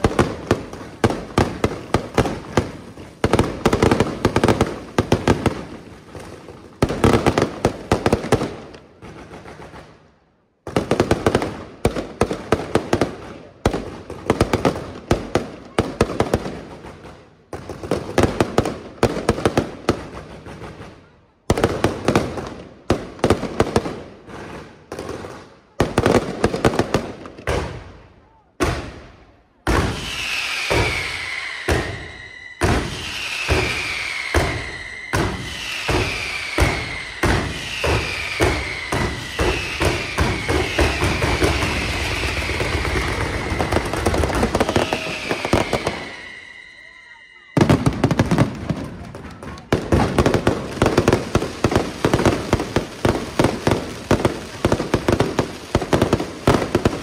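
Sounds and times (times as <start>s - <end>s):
fireworks bursts and crackling bangs: 0.0s - 57.0s.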